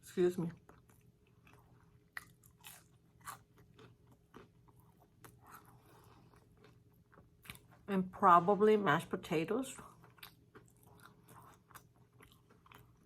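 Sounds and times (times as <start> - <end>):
faint chewing with soft crunches: 0.0 - 13.0.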